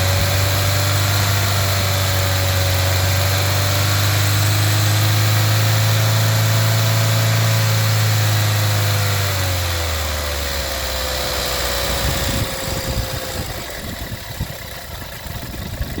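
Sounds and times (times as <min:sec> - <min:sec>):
car engine idling roughly: 0:00.0 - 0:16.0.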